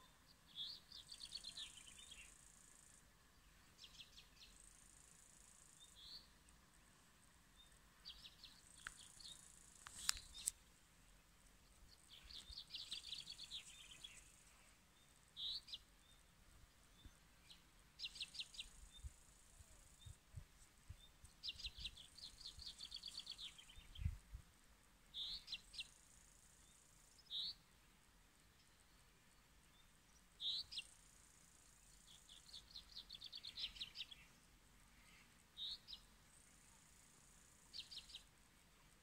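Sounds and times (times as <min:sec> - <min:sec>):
songbird singing: 0:00.0 - 0:24.4, 0:25.0 - 0:39.0.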